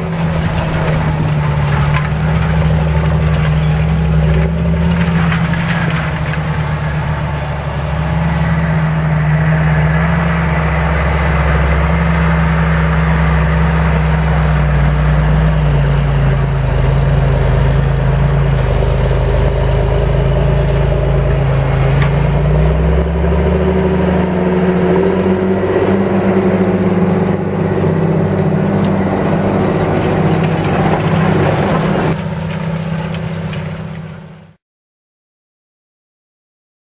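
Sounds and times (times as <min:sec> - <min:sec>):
tractor diesel engine running: 0:00.0 - 0:34.6.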